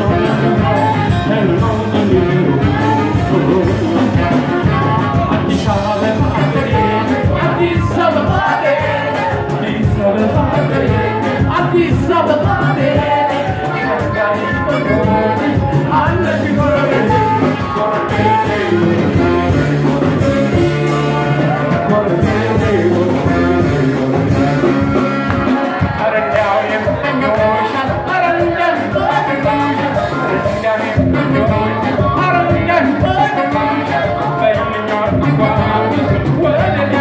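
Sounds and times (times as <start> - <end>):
live band playing popular music: 0.0 - 37.0
man singing lead: 0.0 - 37.0.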